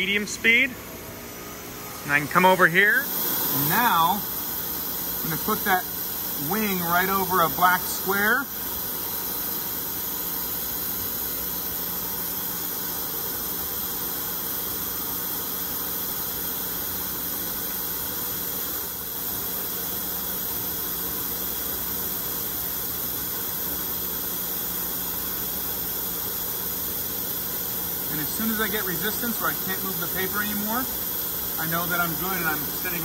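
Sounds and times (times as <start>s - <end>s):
faint machinery hum: 0.0s - 33.0s
steady hiss: 0.0s - 33.0s.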